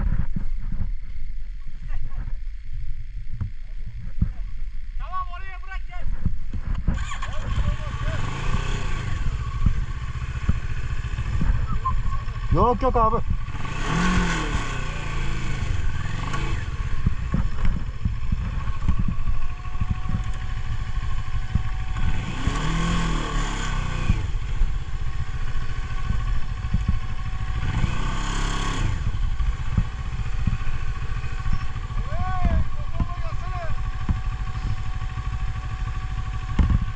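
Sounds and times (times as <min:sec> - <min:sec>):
motorcycle engine surging: 0:00.0 - 0:36.9.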